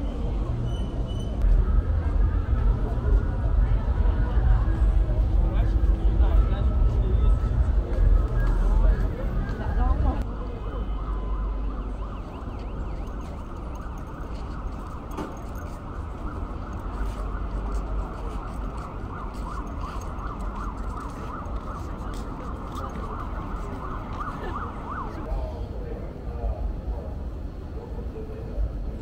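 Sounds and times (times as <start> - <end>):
crowd talking outdoors: 0.0 - 29.0.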